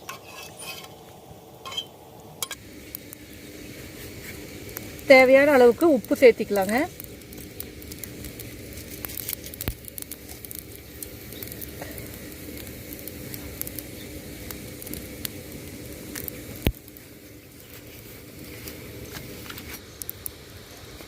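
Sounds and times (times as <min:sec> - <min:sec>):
pot sizzling and crackling: 0:00.0 - 0:21.0.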